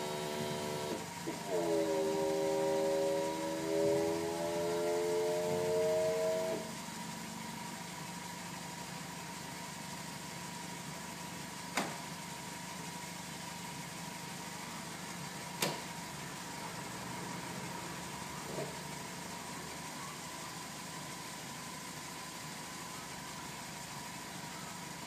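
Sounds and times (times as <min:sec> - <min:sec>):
roof pump whine: 0:00.0 - 0:25.0
small car engine idling: 0:00.0 - 0:25.0.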